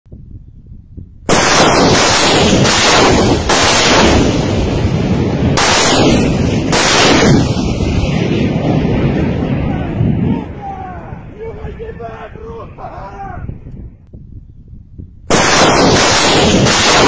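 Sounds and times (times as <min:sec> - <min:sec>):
rockets launching with roaring blast: 0:01.2 - 0:14.1, 0:15.2 - 0:17.0.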